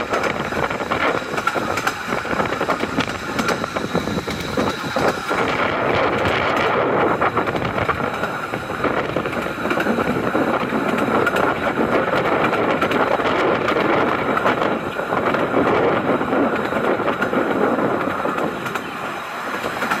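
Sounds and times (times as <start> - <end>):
train wheels rattling on rails: 0.0 - 20.0.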